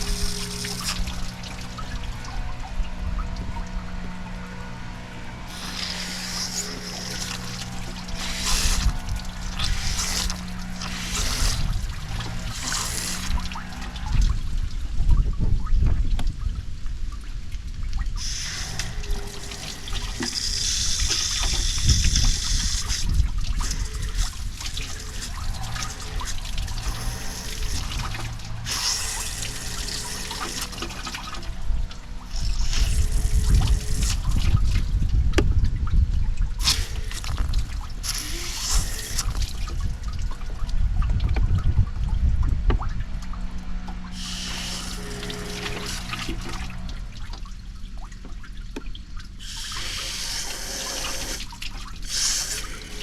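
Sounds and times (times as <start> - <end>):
water pouring and splashing: 0.0 - 53.0.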